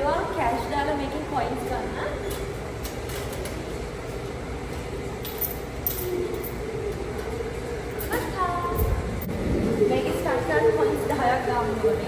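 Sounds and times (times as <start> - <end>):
laundromat machines humming: 0.0 - 12.0.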